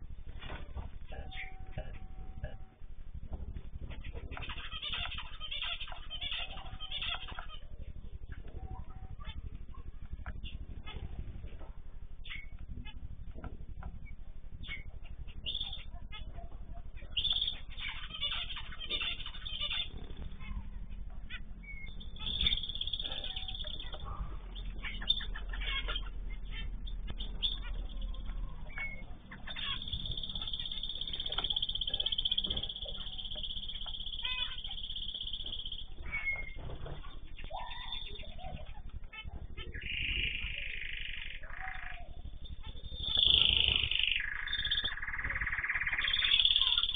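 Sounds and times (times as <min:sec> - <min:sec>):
small birds chirping: 0:00.0 - 0:46.9
steady low hum: 0:00.0 - 0:46.9.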